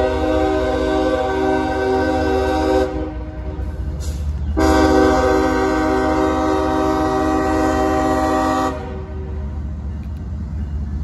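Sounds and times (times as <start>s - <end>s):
locomotive air horn blast: 0.0s - 9.5s.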